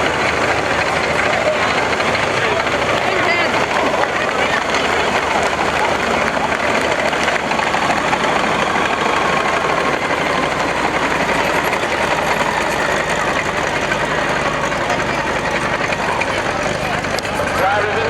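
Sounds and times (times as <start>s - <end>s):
vehicle engine fast idle: 0.0s - 18.0s.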